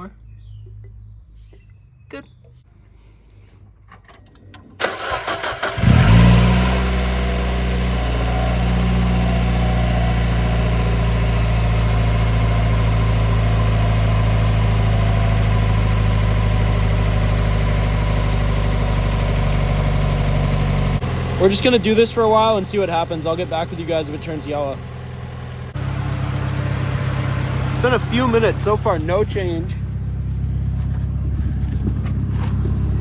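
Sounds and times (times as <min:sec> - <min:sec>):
car engine starting and idling: 0:03.7 - 0:33.0.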